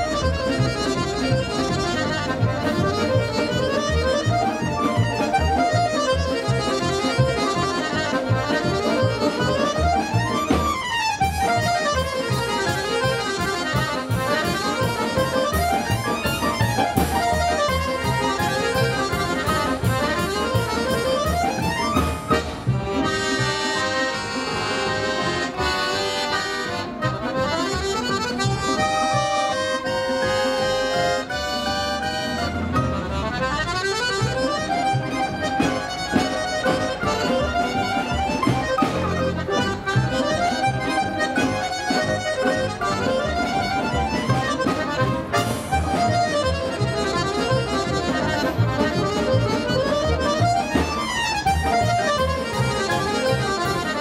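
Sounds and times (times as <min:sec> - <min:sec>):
button accordion: 0:00.0 - 0:54.0
folk ensemble playing: 0:00.0 - 0:54.0.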